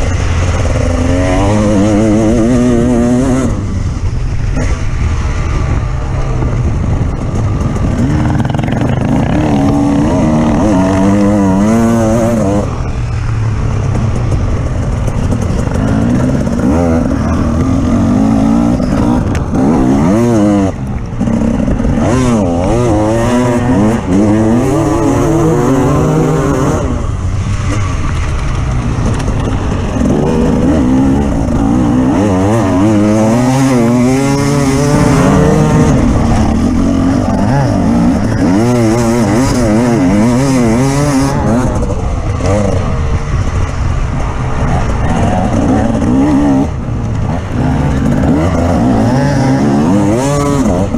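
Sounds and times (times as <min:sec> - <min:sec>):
off-road vehicle engine revving: 0:00.0 - 0:05.0, 0:07.6 - 0:13.0, 0:14.2 - 0:50.9.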